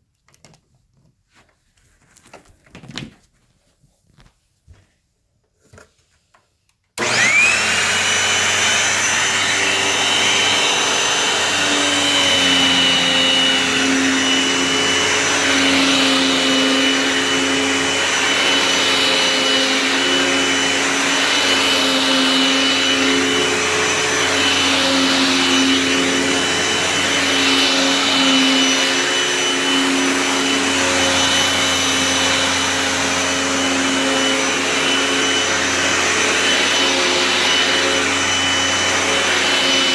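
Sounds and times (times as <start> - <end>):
vacuum cleaner motor whining: 7.0 - 39.9.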